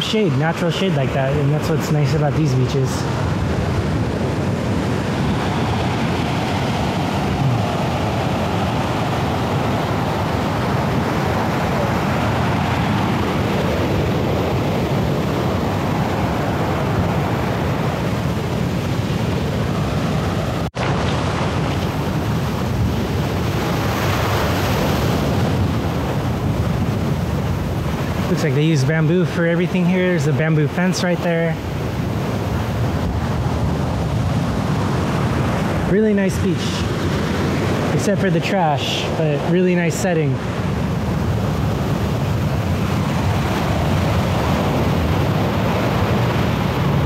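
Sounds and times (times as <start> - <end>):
ocean surf breaking: 0.0 - 47.0.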